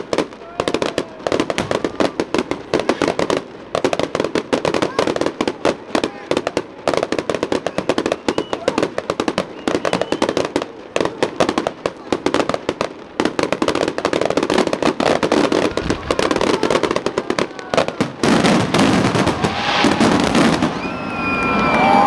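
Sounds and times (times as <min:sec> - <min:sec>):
fireworks crackling and popping: 0:00.0 - 0:22.0
large firework burst: 0:00.0 - 0:22.0.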